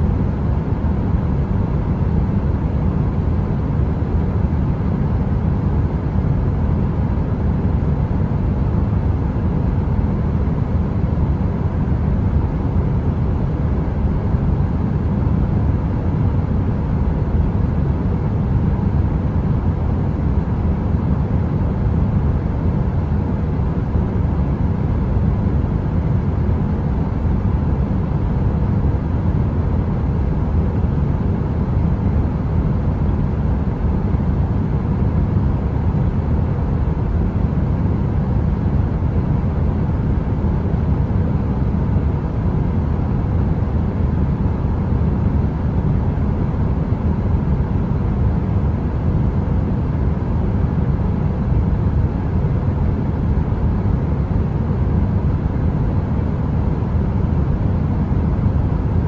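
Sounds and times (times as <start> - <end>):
faint steady hum: 0.0 - 59.0
heater white noise: 0.0 - 59.0.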